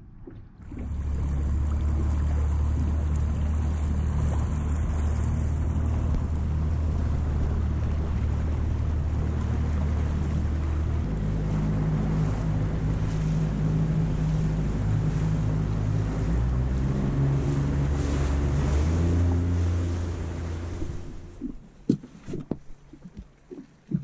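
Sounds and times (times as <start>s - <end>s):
outboard motor running: 0.2s - 24.0s
rush of boat wake: 0.6s - 24.0s
wind buffeting microphone: 0.7s - 21.6s.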